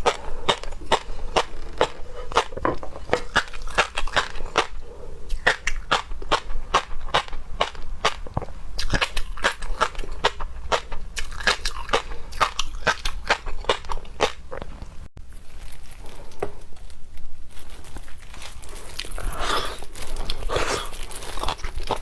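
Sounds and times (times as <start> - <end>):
seafood being bitten and chewed: 0.0 - 15.0, 15.6 - 22.0.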